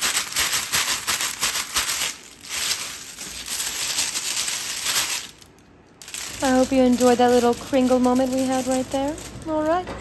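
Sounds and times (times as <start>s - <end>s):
plastic sheet crinkling: 0.0s - 10.0s.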